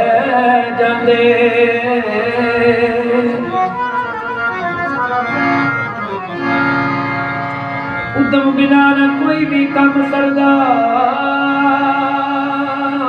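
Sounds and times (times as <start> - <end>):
harmonium reed notes: 0.0 - 13.0
tabla: 0.0 - 13.0.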